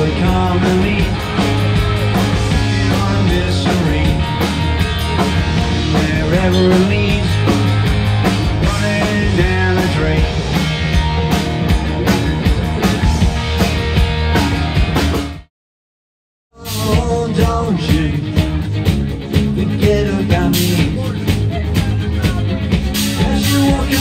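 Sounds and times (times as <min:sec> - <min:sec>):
electric guitar: 0:00.0 - 0:15.4, 0:16.6 - 0:24.0
drum kit beat: 0:00.0 - 0:15.5, 0:16.6 - 0:24.0
electric bass: 0:00.0 - 0:15.5, 0:16.6 - 0:24.0.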